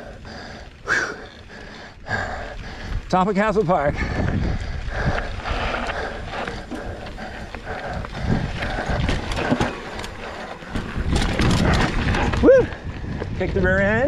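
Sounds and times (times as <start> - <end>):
bike rattling over bumps: 0.0 - 14.0
tyres rumbling on dirt: 0.0 - 14.0.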